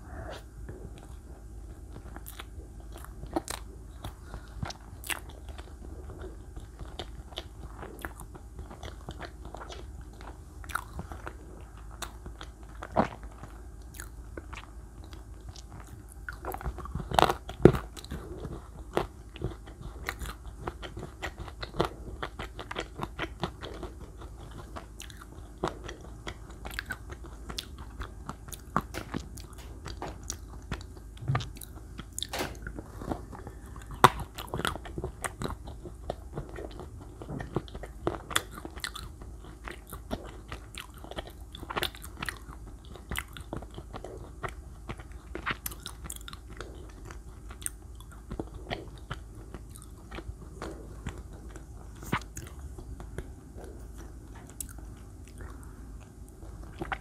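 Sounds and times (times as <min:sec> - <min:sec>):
biting and chewing crunches: 0:00.2 - 0:57.0.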